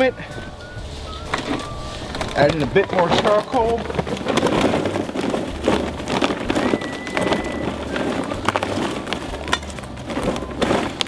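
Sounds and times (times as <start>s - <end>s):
charcoal pieces clattering: 1.0s - 11.0s.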